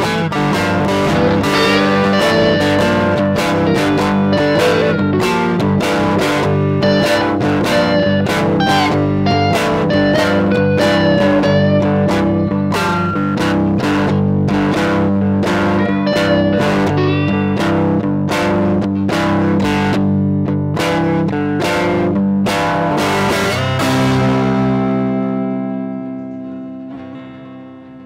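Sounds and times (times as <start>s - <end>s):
guitar melody with bending notes: 0.0s - 28.0s
strummed blues guitar chords: 0.0s - 28.0s.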